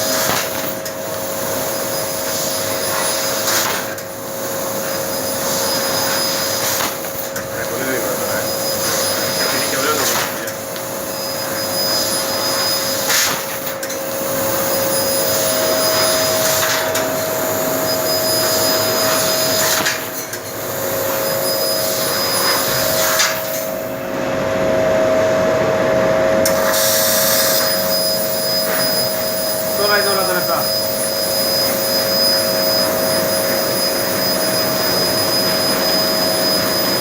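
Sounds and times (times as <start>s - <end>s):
laser cutter hissing: 0.0s - 24.1s, 26.4s - 37.0s
constant machine hum: 0.0s - 37.0s.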